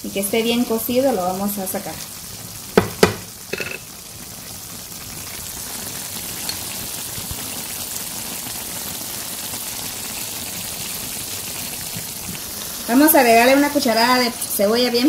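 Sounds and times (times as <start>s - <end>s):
meat sizzling and bubbling in pan: 0.0s - 15.0s.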